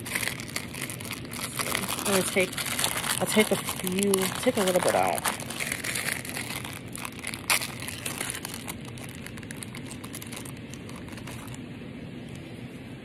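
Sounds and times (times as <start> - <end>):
plastic packet crinkling: 0.0 - 11.6
sharp plastic crackle: 0.0 - 11.6.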